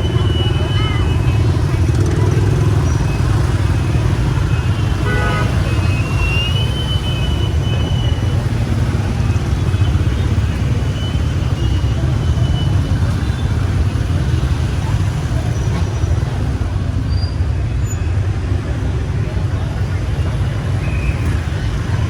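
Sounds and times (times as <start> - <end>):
faint crowd voices: 0.0 - 22.0
motorbikes and cars passing: 0.0 - 22.0
street traffic rumble: 0.0 - 22.0.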